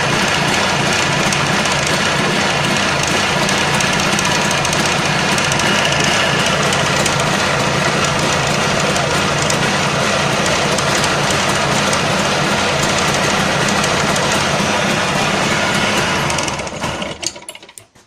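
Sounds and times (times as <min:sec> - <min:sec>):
engine cylinder knock: 0:00.0 - 0:18.0
two-stroke engine running: 0:00.0 - 0:18.0.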